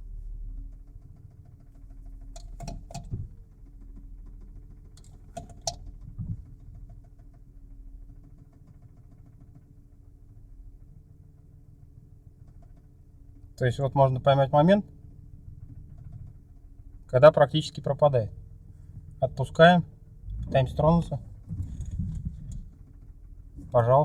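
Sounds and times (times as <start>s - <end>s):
car engine idling with knock: 0.0s - 24.0s.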